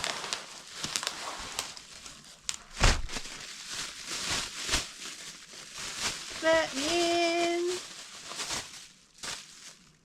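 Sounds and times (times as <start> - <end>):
packaging rustling and scraping: 0.0 - 10.0.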